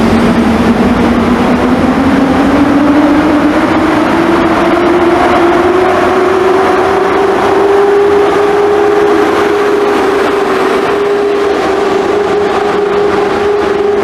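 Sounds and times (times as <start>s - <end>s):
electric locomotive whine: 0.0s - 14.0s
train carriages rolling past: 0.0s - 14.0s.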